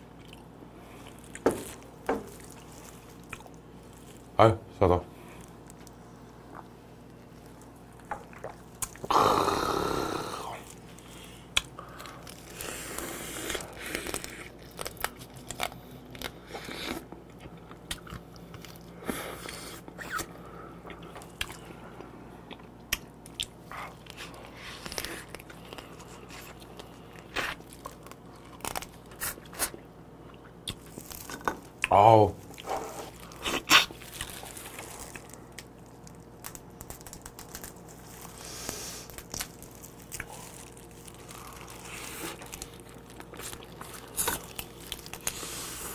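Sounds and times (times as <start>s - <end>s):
crunching and chewing crab shell: 0.0s - 4.4s, 5.2s - 9.2s, 10.2s - 45.9s.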